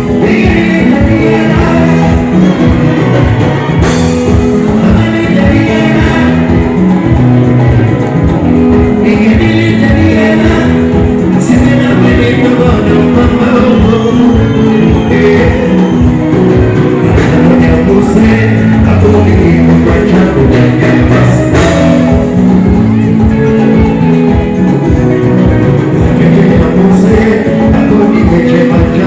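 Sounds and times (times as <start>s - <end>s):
live band with singer: 0.0s - 29.0s.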